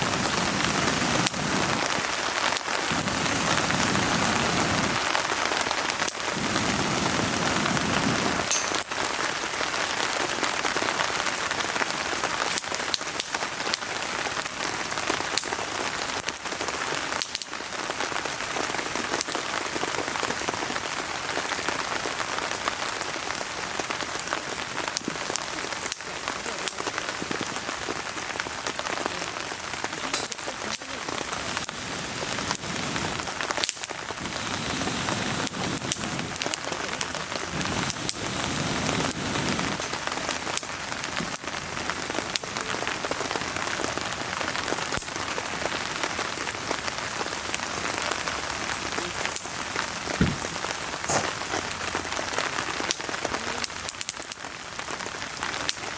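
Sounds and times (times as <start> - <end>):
steady rain: 0.0 - 55.9
wood fire crackling: 0.0 - 55.9.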